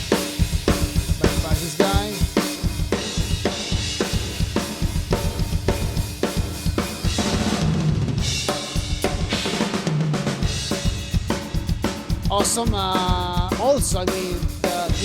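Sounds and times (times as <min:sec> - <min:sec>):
cymbals: 0:00.0 - 0:15.0
fast kick drum: 0:00.0 - 0:15.0.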